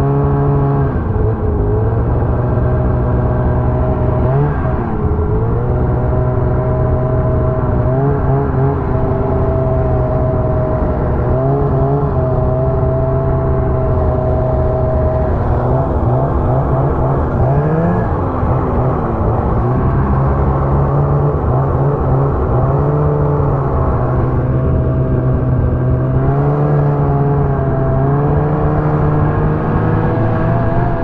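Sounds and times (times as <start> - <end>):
snowmobile engine running hard: 0.0 - 31.0.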